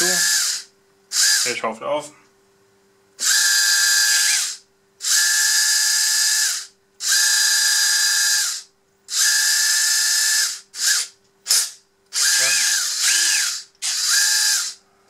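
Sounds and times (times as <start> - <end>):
high electric motor whine: 0.0 - 1.6, 3.2 - 14.9.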